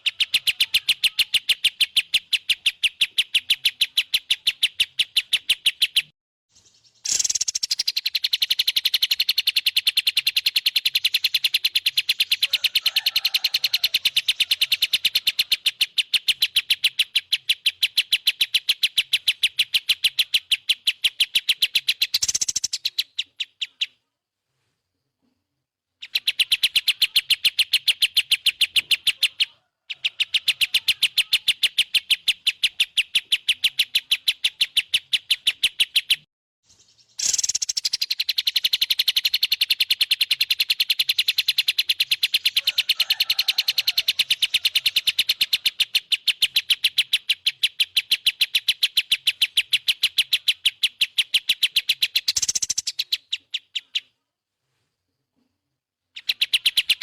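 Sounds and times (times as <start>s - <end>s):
songbird trilling: 0.0s - 24.0s, 26.0s - 36.2s, 36.8s - 54.2s, 56.2s - 57.0s.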